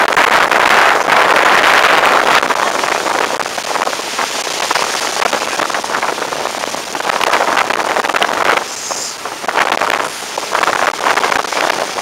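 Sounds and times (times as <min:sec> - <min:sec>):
wind and water rushing: 0:00.0 - 0:12.0.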